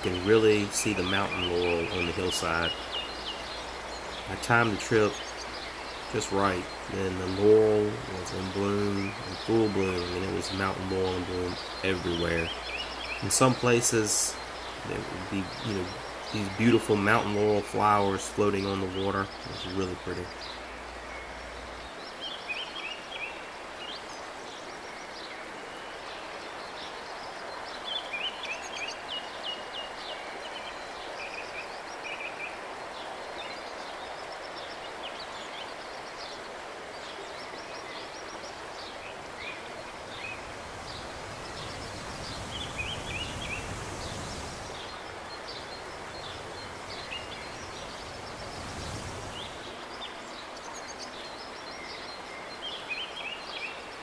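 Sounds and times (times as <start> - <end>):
river rushing: 0.0 - 54.0
small birds chirping: 0.0 - 54.0.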